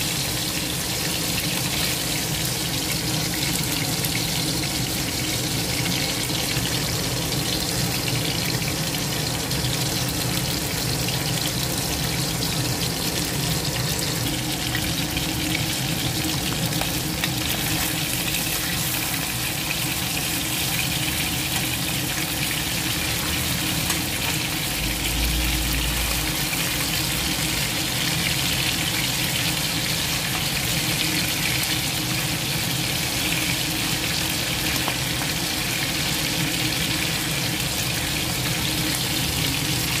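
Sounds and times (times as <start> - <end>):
fish sizzling in hot oil: 0.0 - 40.0.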